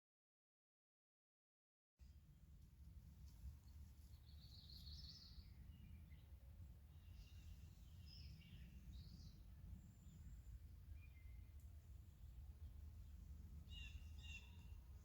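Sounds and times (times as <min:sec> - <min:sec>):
faint birdsong: 0:02.0 - 0:15.0
low steady rumble: 0:02.0 - 0:15.0.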